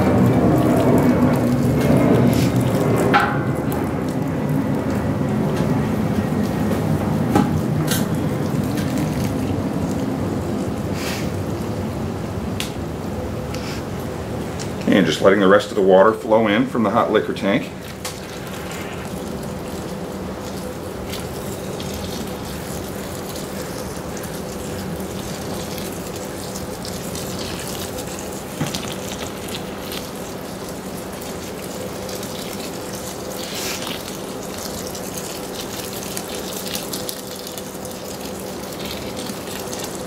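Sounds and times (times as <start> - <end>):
water running into a container: 0.0 - 11.8, 14.8 - 40.0.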